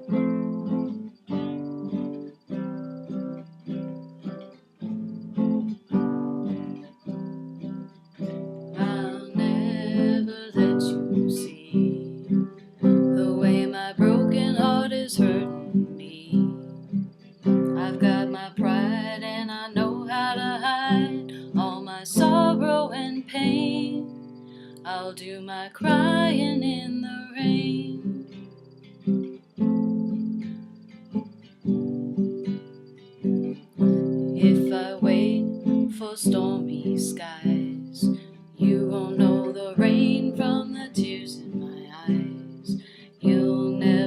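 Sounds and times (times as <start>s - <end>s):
acoustic guitar strumming: 0.0s - 44.0s
wavering melody with vibrato: 0.0s - 44.0s.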